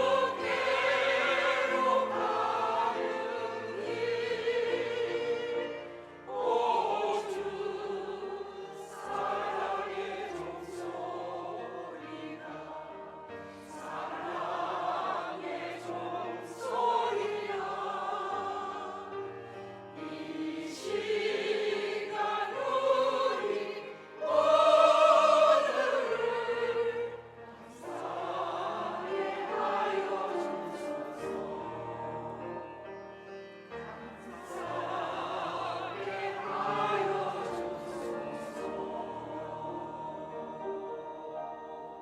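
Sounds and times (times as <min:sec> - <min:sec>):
choir singing a hymn: 0:00.0 - 0:42.0.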